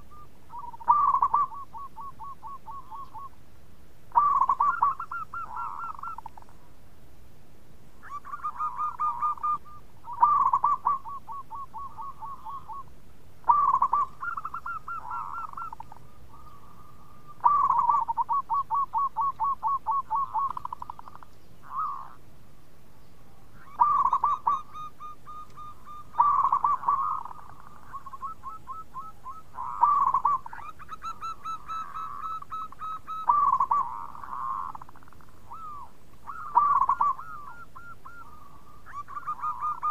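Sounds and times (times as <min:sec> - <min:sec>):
dove cooing: 0:00.0 - 0:03.4, 0:04.1 - 0:06.5, 0:08.0 - 0:22.2, 0:23.5 - 0:39.9.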